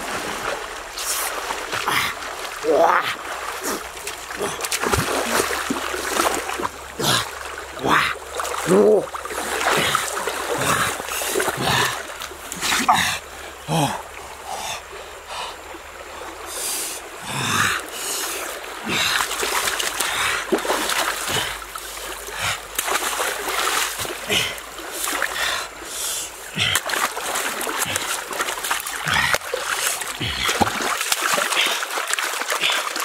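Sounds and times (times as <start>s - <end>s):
stream water rushing: 0.0s - 33.0s
water splashes: 0.0s - 33.0s.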